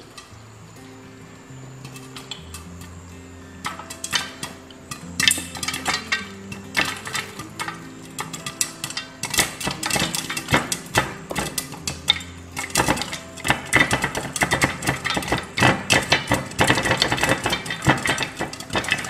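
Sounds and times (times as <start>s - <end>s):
popcorn popping in hot oil: 0.0s - 0.5s, 1.3s - 19.0s.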